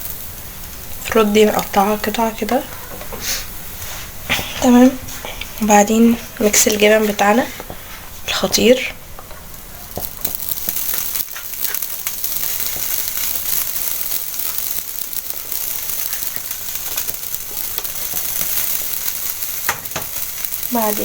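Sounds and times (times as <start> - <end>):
food sizzling in a hot pan: 0.0 - 21.0.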